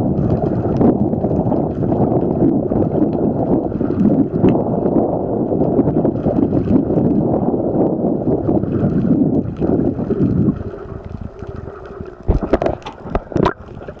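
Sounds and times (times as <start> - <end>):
faint steady hum: 0.0 - 14.0
water rushing past camera: 0.0 - 14.0.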